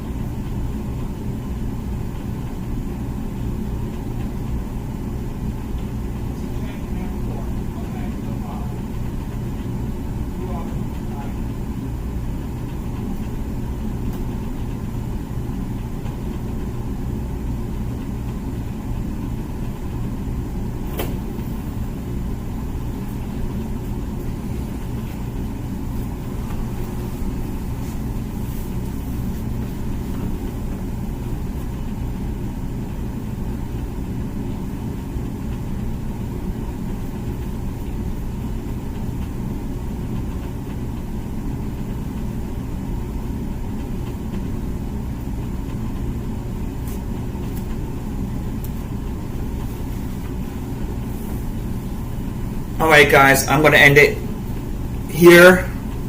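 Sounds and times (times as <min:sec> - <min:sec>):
dishwasher pump hum: 0:00.0 - 0:56.0.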